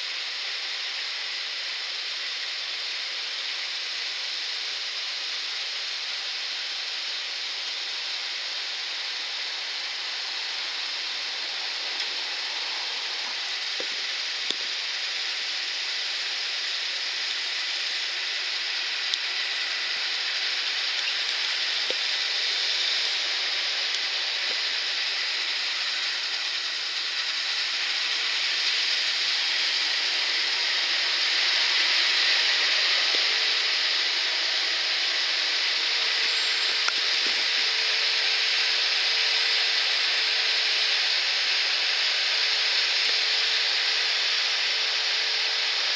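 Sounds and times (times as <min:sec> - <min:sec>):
combine harvester hissing: 0:01.0 - 0:40.0.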